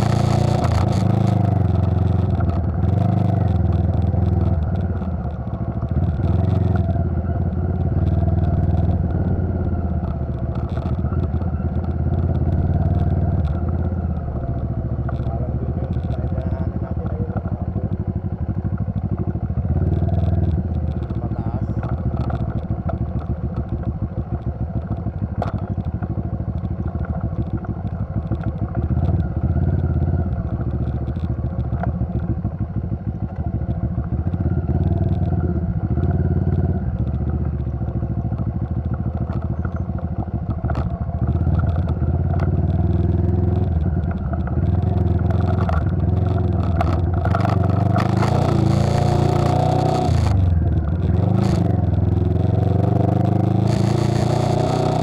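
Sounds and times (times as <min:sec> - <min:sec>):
motorcycle engine: 0:00.0 - 0:55.0
motorcycle rattling over bumps: 0:00.0 - 0:55.0.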